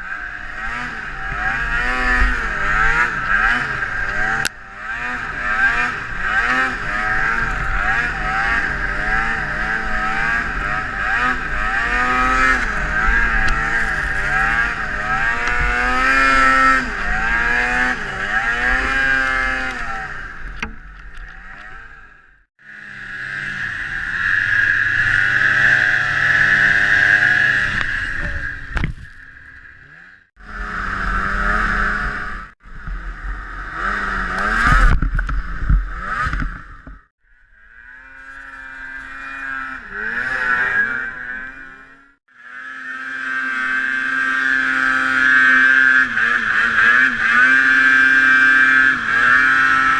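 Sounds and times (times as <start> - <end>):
snowmobile engine revving: 0.0 - 49.9.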